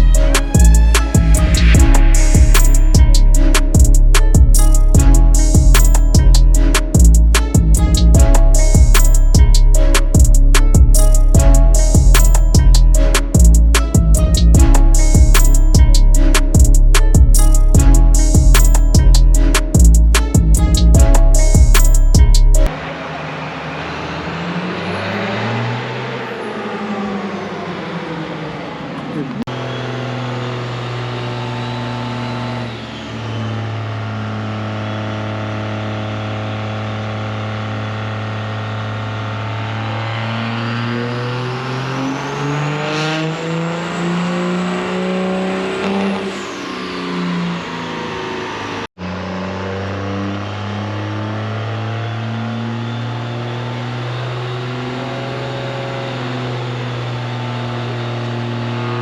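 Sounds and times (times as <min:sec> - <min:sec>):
high whine rising: 0:00.0 - 0:48.9
truck engine revving: 0:00.0 - 0:59.0.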